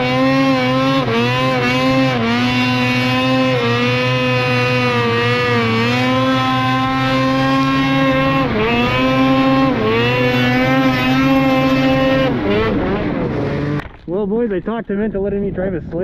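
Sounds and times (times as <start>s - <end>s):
snowmobile engine at high revs: 0.0s - 14.0s.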